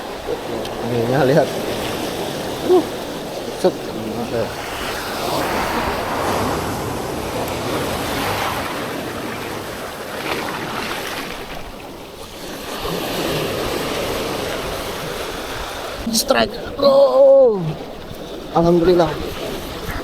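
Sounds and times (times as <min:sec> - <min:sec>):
surf breaking on beach: 0:00.0 - 0:20.0
wind buffeting microphone: 0:00.0 - 0:20.0.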